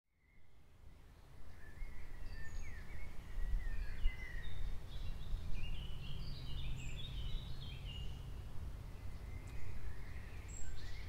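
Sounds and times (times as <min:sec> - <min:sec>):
songbirds chirping and singing: 0:00.2 - 0:11.0.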